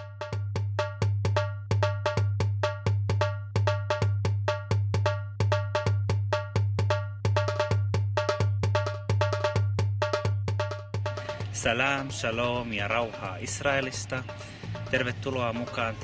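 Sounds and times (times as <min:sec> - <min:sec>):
sharp clacking percussion: 0:00.0 - 0:16.0.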